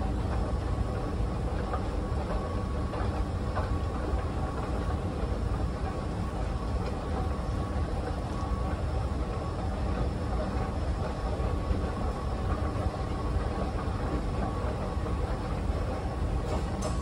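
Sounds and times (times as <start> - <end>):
escalator rumbling with faint whine: 0.0 - 17.0.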